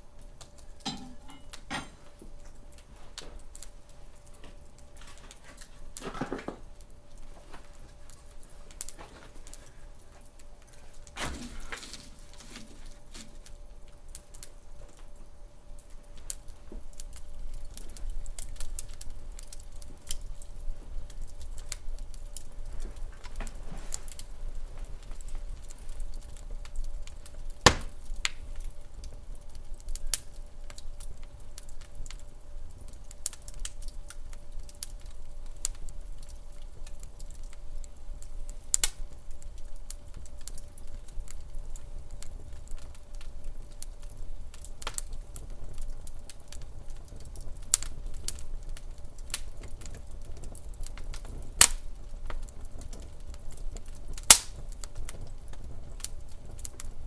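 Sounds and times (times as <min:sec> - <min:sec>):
low fire rumble: 0:00.0 - 0:57.0
wood fire crackling and popping: 0:00.0 - 0:57.0.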